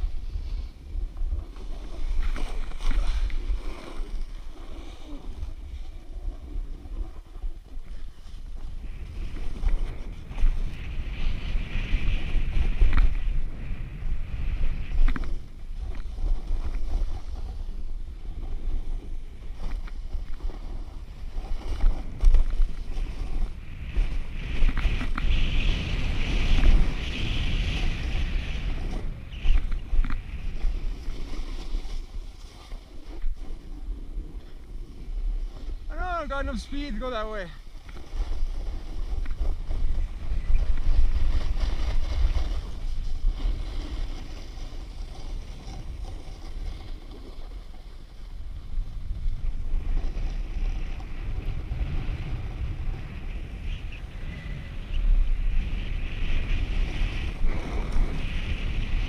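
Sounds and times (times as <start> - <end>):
snowboard edge scraping snow: 0.0 - 59.0
wind buffeting microphone: 0.0 - 59.0.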